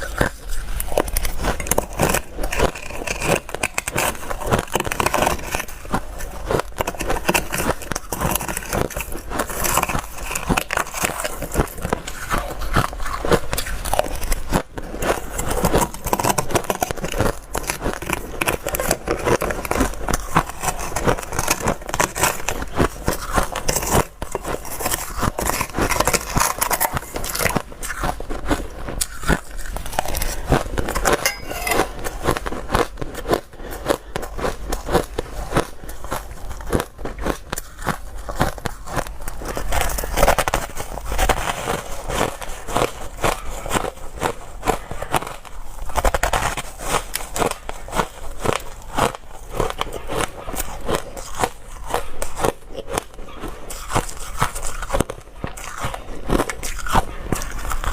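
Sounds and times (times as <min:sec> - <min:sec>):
ice being chewed: 0:00.0 - 0:57.9.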